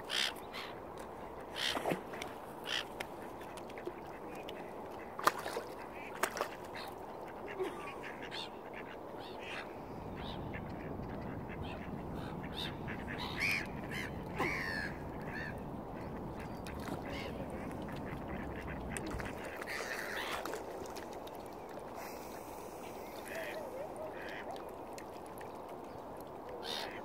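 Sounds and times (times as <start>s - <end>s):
waterbirds calling: 0.0s - 27.0s.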